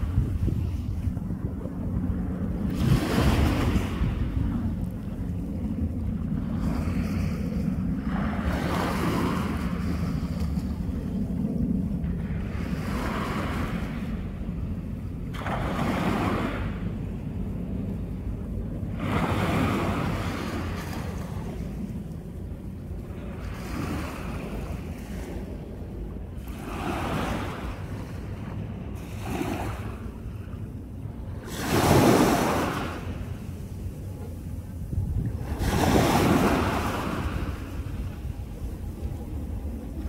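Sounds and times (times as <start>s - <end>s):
wind rumble on microphone: 0.0s - 40.0s
waves washing up shore: 1.8s - 4.8s, 5.7s - 17.1s, 18.9s - 22.0s, 22.9s - 40.0s.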